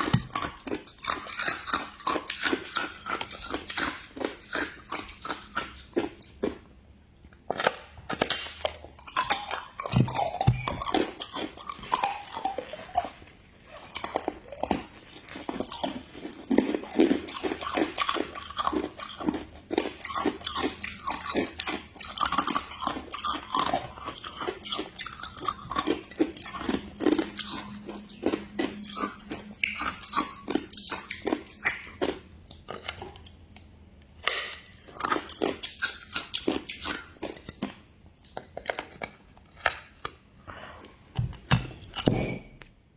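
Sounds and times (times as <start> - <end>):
ice being chewed: 0.0 - 42.7.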